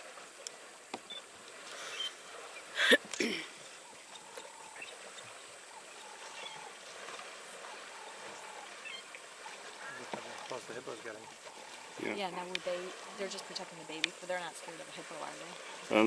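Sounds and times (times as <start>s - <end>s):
elephants splashing in water: 0.0s - 16.0s.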